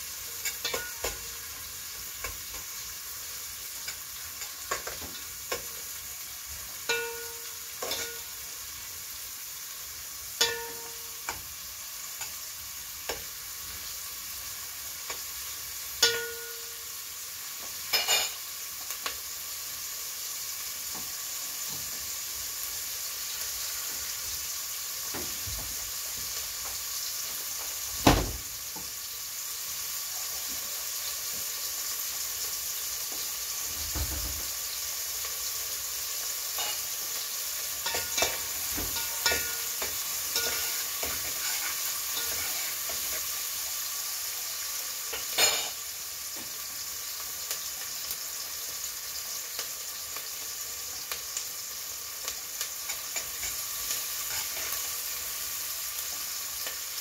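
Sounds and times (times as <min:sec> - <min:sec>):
food sizzling in a pot: 0:00.0 - 0:57.0.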